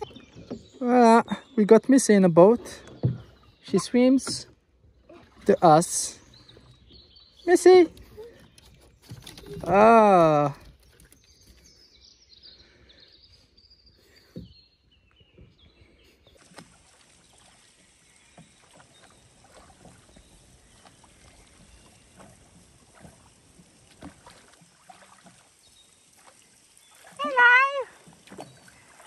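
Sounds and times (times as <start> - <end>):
oars splashing and knocking: 0.0 - 12.0, 14.1 - 29.0.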